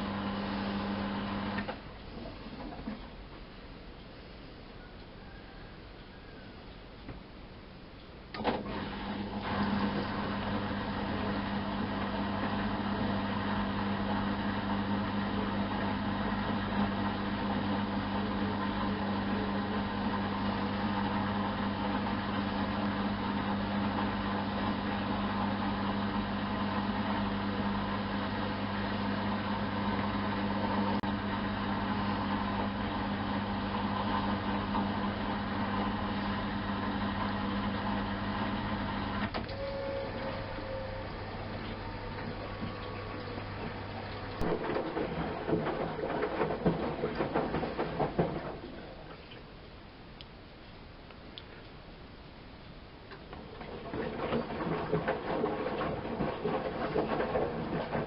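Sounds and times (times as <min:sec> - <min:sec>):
washing machine humming: 0:00.0 - 0:04.1, 0:04.9 - 0:58.0.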